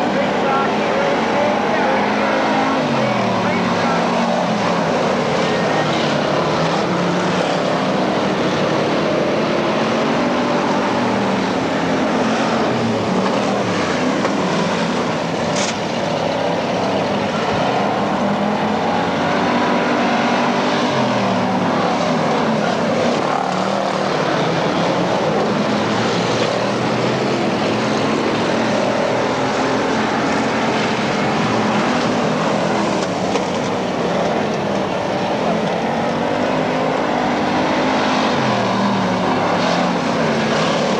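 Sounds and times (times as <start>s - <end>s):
race car engines passing: 0.0s - 40.9s.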